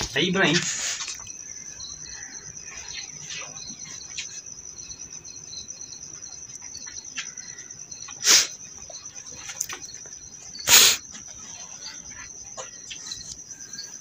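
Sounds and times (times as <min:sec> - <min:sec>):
crickets trilling: 0:00.0 - 0:14.0
pulsing cricket chirp: 0:00.0 - 0:14.0.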